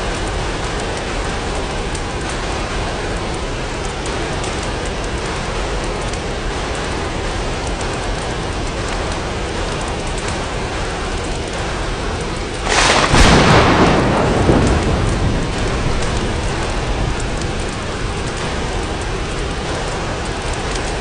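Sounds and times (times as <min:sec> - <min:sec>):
steady rain: 0:00.0 - 0:21.0
thunderclap rumbling: 0:00.0 - 0:21.0.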